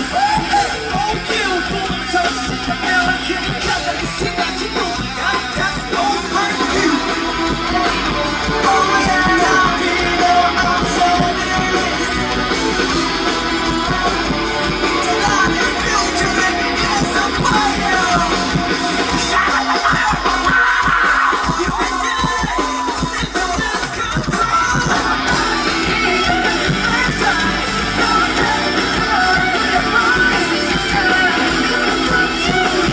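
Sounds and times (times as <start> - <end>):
drums: 0.0 - 32.9
electric guitar: 0.0 - 32.9
person singing: 0.0 - 32.9.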